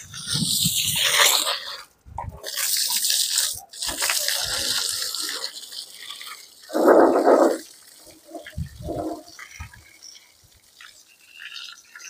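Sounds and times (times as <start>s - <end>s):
hose water spraying on bricks: 0.0s - 12.0s.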